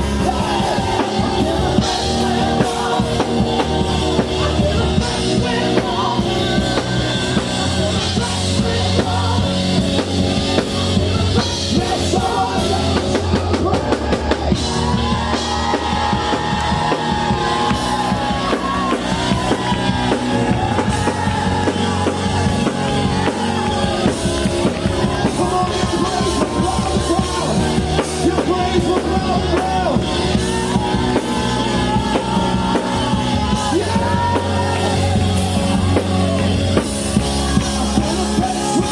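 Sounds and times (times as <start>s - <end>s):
drum kit steady beat: 0.0s - 38.9s
people singing worship music: 0.0s - 38.9s.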